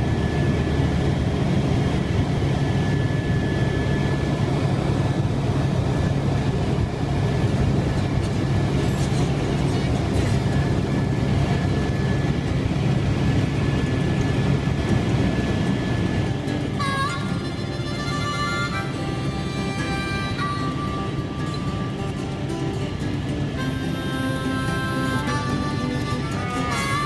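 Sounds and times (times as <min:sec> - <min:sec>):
helicopter rotor and engine drone: 0:00.0 - 0:27.0
thin high whine: 0:00.0 - 0:27.0.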